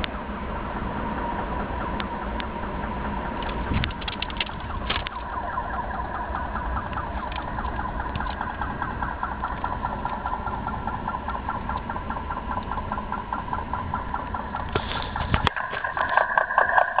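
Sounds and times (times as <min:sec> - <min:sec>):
rail humming with vibration: 0:00.0 - 0:17.0.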